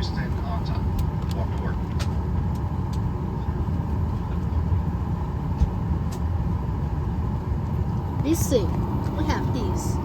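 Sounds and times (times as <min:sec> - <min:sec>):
airliner cabin low rumble: 0:00.0 - 0:10.0.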